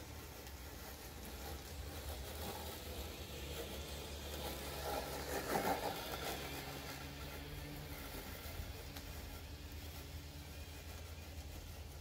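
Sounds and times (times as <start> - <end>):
toy lawn mower motor humming: 0.0 - 12.0.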